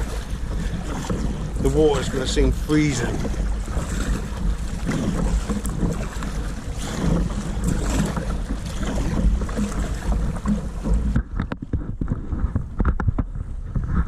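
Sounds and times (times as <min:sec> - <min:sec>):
sea water splashing: 0:00.0 - 0:14.0
wind buffeting microphone: 0:00.0 - 0:14.0.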